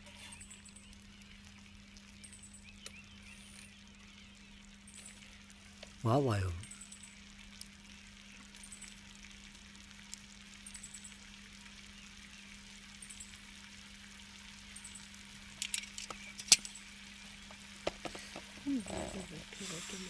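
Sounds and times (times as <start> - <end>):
campfire crackling: 0.0 - 20.0
food sizzling on a grill: 0.0 - 20.0.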